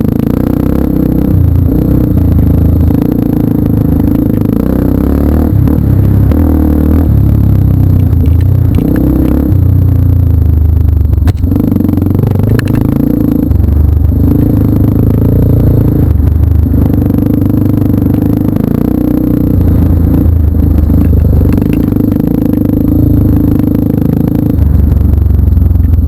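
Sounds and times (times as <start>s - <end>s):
motorcycle engine revving: 0.0s - 26.0s
steady clatter: 0.0s - 26.0s.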